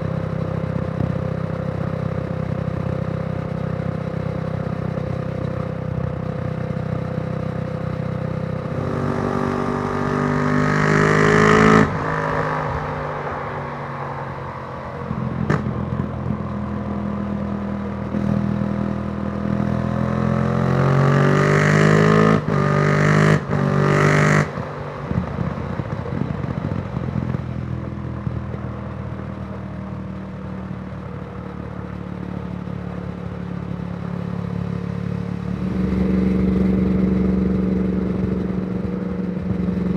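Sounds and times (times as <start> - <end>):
motorcycle engine revving: 6.3 - 29.4, 30.2 - 39.9.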